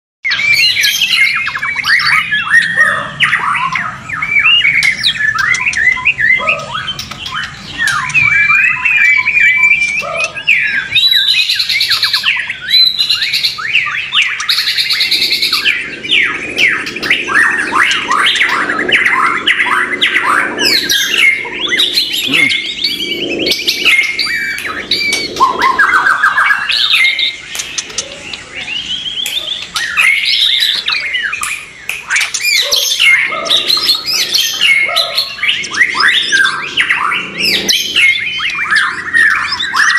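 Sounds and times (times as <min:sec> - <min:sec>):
birds whistling and chattering: 0:00.2 - 0:39.9.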